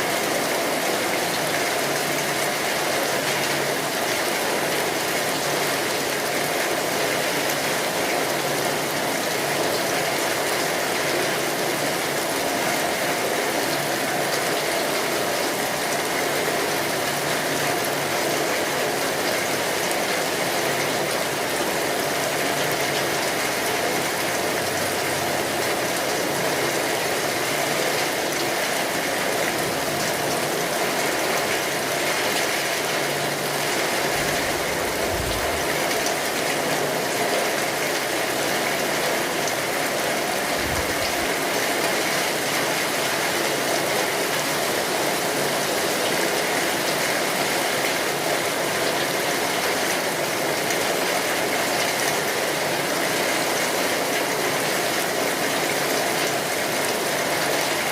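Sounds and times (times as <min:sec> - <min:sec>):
rain drumming on a tin roof: 0:00.0 - 0:57.9.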